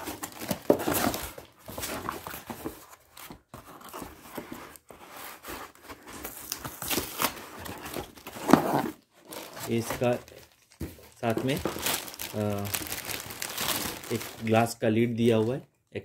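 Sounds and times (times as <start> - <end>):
packaging rustling and crinkling: 0.0 - 15.6.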